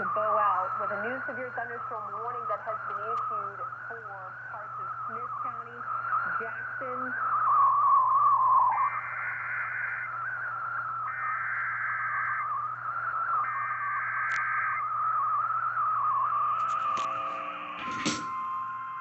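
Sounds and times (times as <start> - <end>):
buzzy warbling data tones: 0.0 - 19.0
continuous wavering tone: 0.0 - 19.0
low hum: 0.0 - 19.0.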